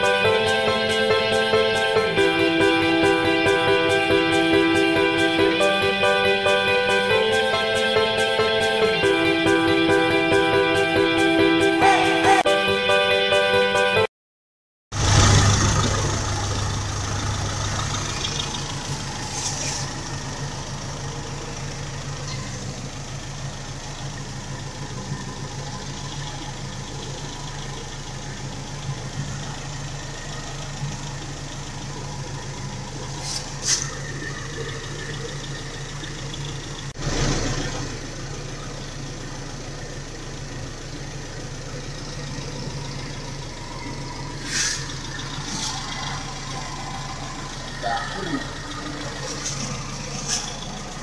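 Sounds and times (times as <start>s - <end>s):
engine idling: 0.0s - 13.5s, 14.9s - 51.0s.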